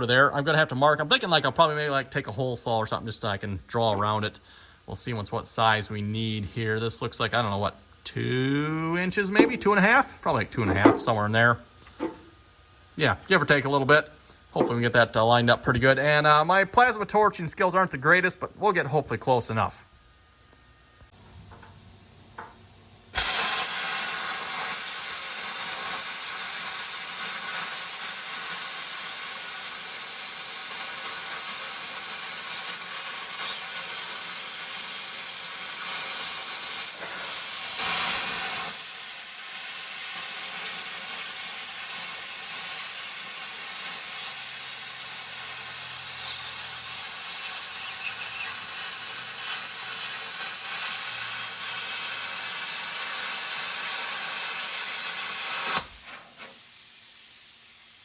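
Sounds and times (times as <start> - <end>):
plasma cutter hissing: 0.0 - 19.6, 21.7 - 58.0.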